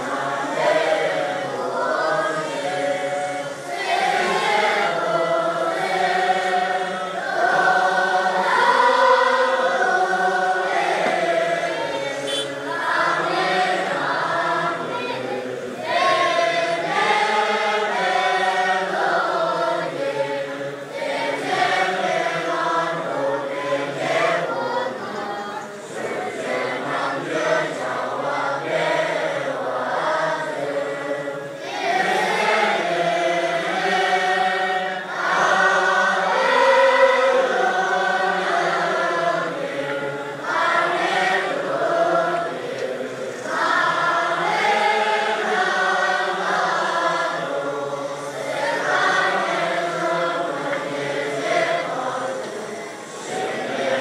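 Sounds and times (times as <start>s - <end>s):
monks chanting in unison: 0.0s - 54.0s.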